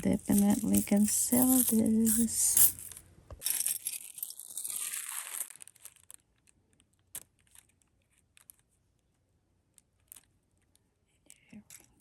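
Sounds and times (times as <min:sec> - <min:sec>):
wrapping crinkling and rustling: 0:00.0 - 0:10.9.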